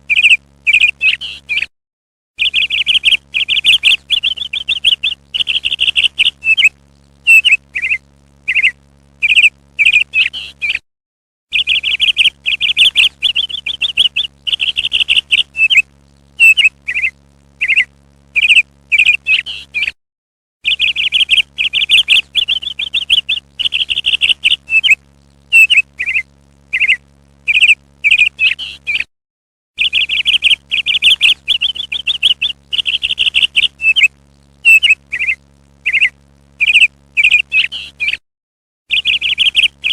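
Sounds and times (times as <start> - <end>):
parrot chattering trills: 0.1 - 1.7, 2.4 - 6.7, 7.3 - 10.8, 11.5 - 15.8, 16.4 - 20.0, 20.7 - 29.1, 29.8 - 38.2, 38.9 - 39.9
parrot single chirps: 0.1 - 1.7, 2.4 - 6.7, 7.3 - 10.8, 11.5 - 15.8, 16.4 - 20.0, 20.6 - 29.1, 29.8 - 38.2, 38.9 - 39.9.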